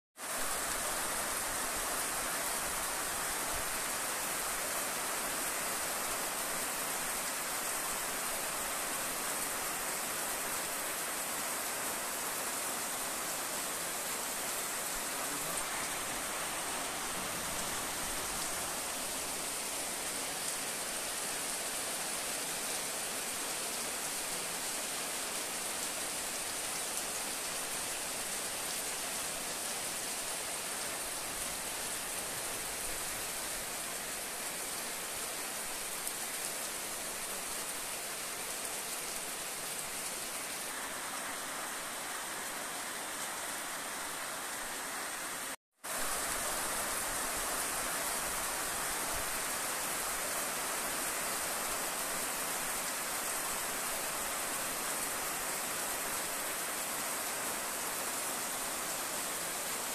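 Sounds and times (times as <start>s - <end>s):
heavy rain on road and roofs: 0.2s - 59.9s.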